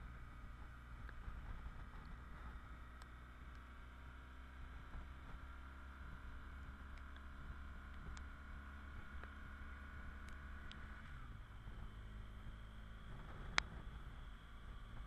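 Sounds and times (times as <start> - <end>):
motorcycle riding hum and hiss: 0.0 - 15.0.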